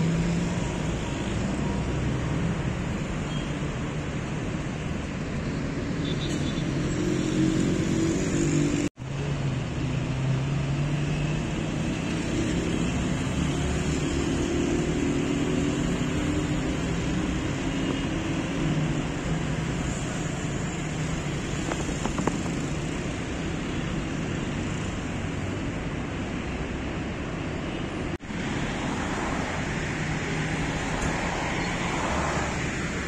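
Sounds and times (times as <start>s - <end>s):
expressway traffic rushing: 0.0s - 33.0s.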